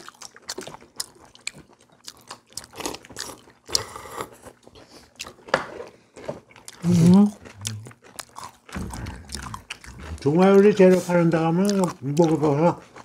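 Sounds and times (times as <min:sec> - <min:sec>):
people chewing and crunching food: 0:00.0 - 0:13.0.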